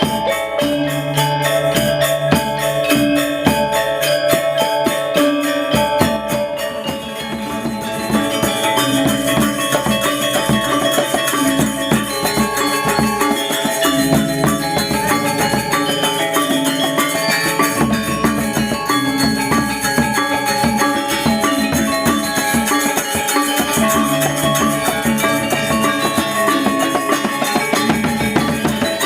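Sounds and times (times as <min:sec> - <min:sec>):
drums: 0:00.0 - 0:29.0
metallophones struck fast: 0:00.0 - 0:29.0
shimmering cymbals: 0:00.0 - 0:29.0.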